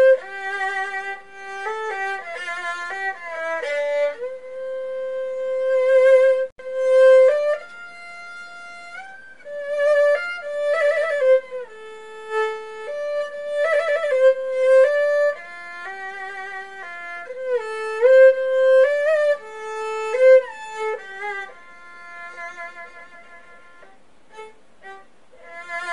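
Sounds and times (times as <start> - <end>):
violin melody: 0.0 - 25.9.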